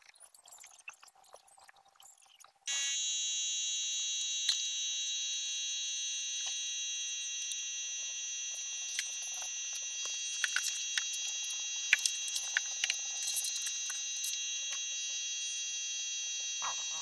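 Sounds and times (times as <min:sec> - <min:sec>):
paint sprayer buzzing drone: 0:02.7 - 0:17.0.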